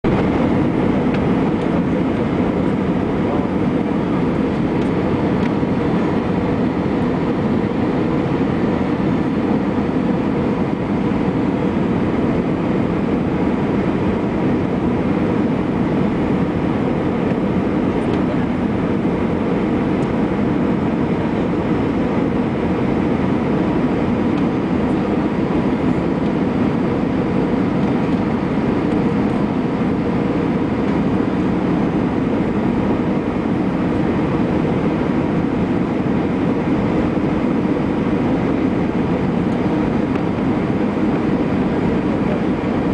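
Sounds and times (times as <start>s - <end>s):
airplane cabin noise: 0.0s - 42.9s.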